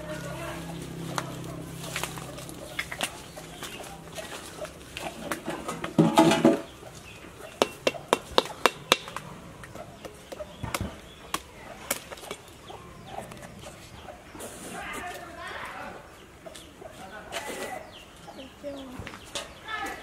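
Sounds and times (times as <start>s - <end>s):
chicken clucking: 0.0s - 20.0s.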